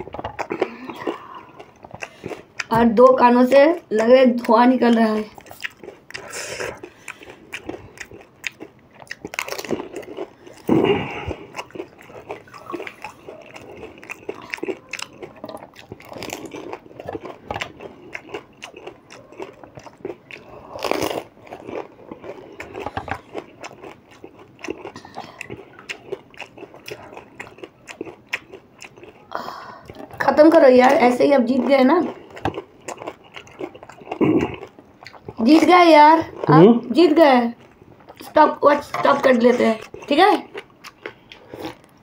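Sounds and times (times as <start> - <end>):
crunching and chewing crisp food: 0.0 - 42.0.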